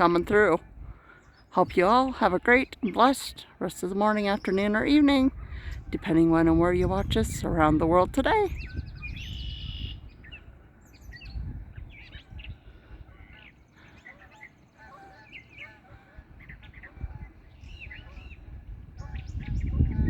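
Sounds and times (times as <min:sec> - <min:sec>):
wild birds chirping: 0:00.0 - 0:20.0.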